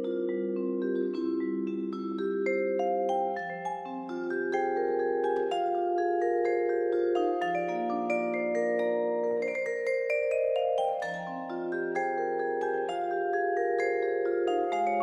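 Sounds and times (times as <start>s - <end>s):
vibraphone chords: 0.0s - 15.0s.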